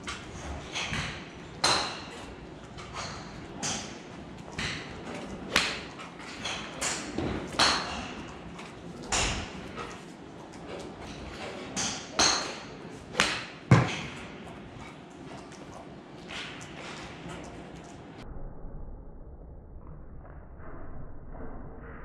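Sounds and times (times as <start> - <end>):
golf clubs striking balls: 0.0 - 18.2.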